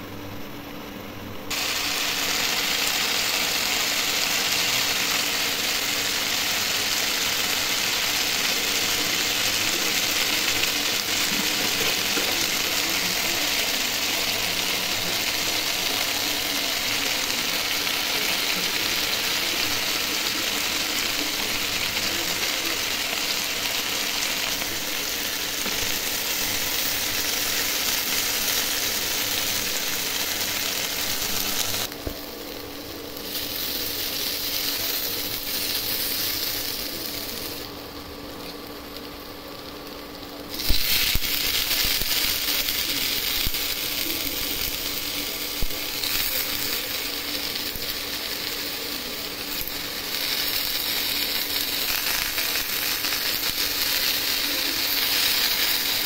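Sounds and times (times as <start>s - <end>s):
potatoes sizzling in oil: 1.5s - 56.0s.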